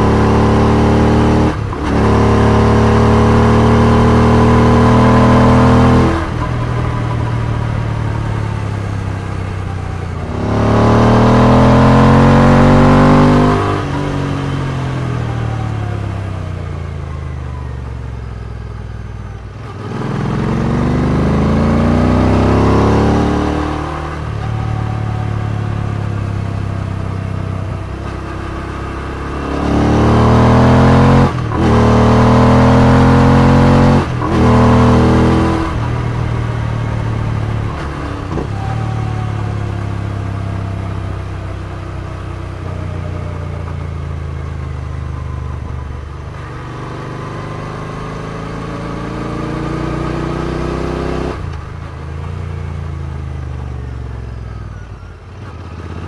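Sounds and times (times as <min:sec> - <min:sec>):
motorcycle engine revving: 0:00.0 - 0:16.9, 0:19.6 - 0:54.4.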